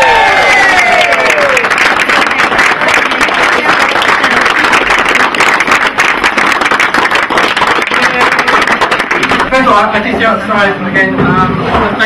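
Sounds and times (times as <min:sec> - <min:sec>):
group applauding: 0:00.0 - 0:10.1.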